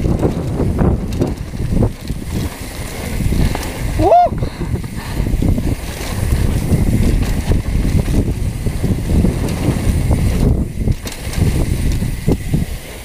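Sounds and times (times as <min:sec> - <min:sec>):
bike rattling over bumpy ground: 0:00.0 - 0:13.0
wind rumbling on microphone: 0:00.0 - 0:13.0.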